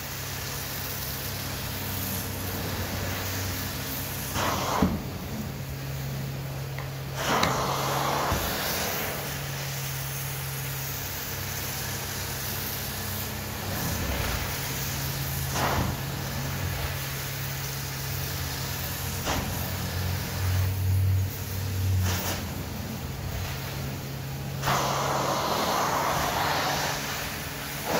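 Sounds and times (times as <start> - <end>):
spray and suction hiss: 0.0 - 27.9.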